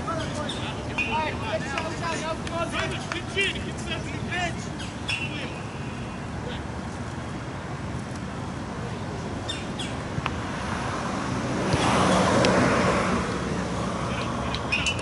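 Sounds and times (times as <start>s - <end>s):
outdoor background noise: 0.0s - 15.0s
road vehicle passing: 0.0s - 15.0s.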